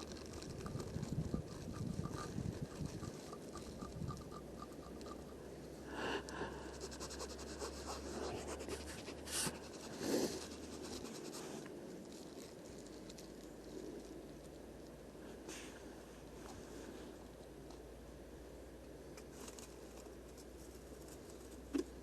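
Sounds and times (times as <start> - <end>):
scratching and rustling handling: 0.0 - 5.5, 6.4 - 17.8, 19.1 - 22.0.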